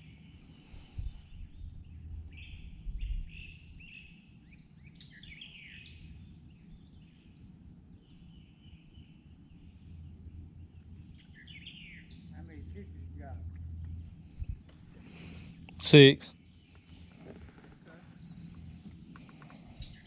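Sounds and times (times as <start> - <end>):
high insect drone: 0.0 - 20.0
birds chirping: 3.3 - 20.0.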